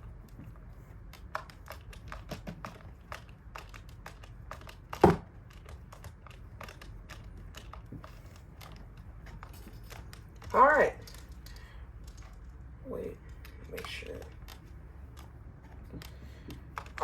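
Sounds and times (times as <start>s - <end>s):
light clicks and taps: 0.0s - 17.0s.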